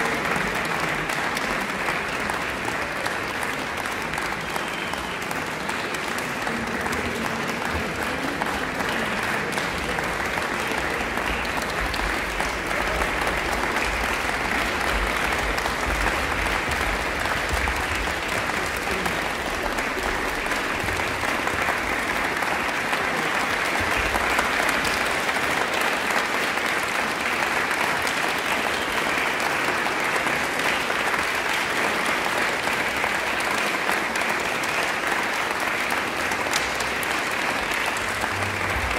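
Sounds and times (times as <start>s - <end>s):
audience applauding: 0.0s - 38.9s.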